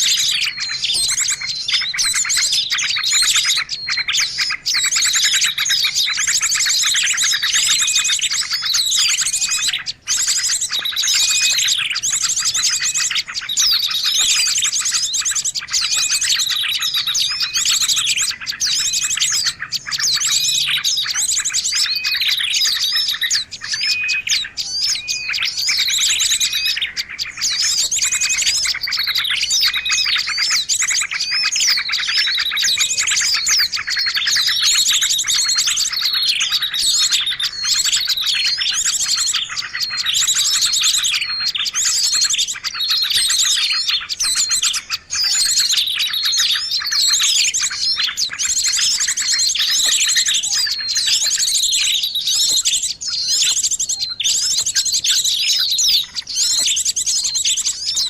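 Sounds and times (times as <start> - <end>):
songbirds chorus of trills and chirps: 0.0 - 58.0.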